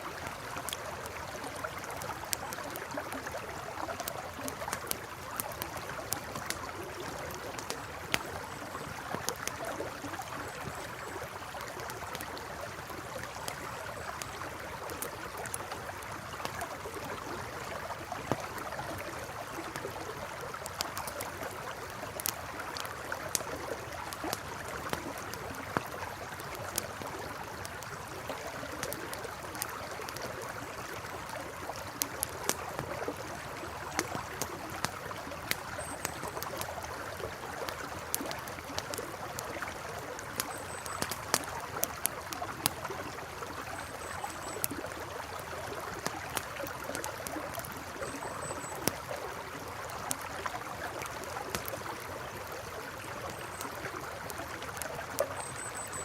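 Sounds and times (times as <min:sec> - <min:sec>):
campfire crackling and popping: 0:00.0 - 0:56.0
river flowing: 0:00.0 - 0:56.0.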